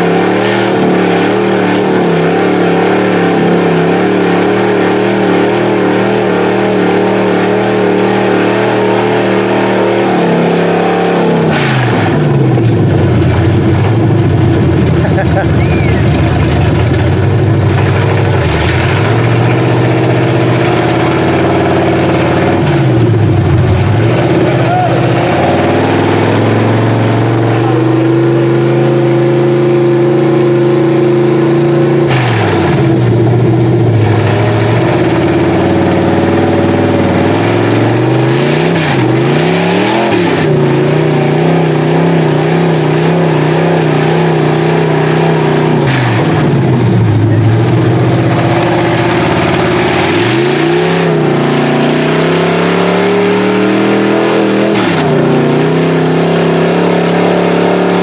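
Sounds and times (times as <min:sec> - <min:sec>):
tires churning through mud: 0:00.0 - 0:58.0
truck engine revving hard: 0:00.0 - 0:58.0.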